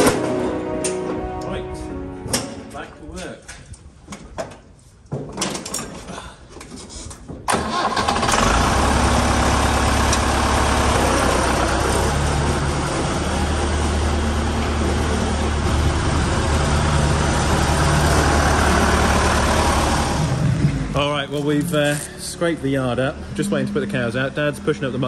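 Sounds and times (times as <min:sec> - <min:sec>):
tractor engine cranking and idling: 0:02.3 - 0:25.0.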